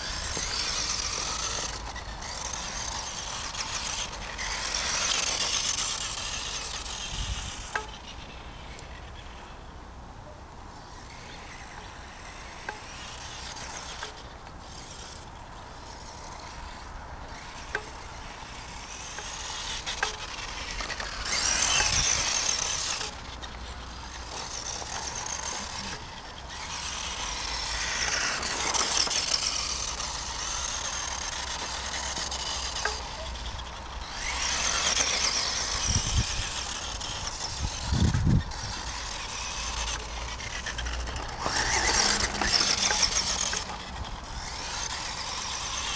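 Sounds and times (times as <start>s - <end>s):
toy car electric motor whining: 0.0s - 9.7s, 10.8s - 45.9s.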